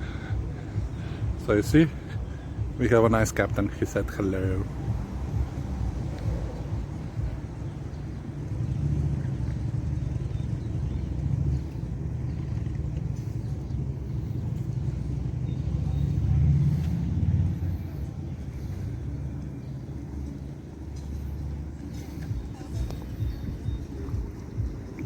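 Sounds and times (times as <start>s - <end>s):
boat engine rumble: 0.0s - 25.0s.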